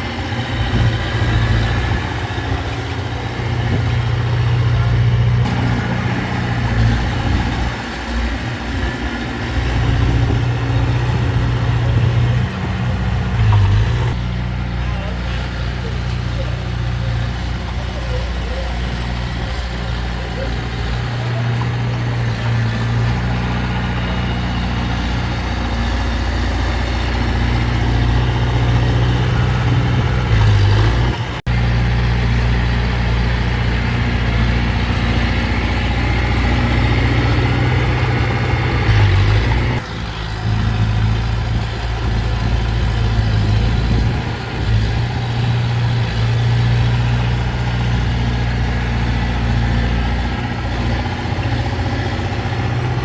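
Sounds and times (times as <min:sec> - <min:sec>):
heavy diesel engine humming: 0:00.0 - 0:53.0.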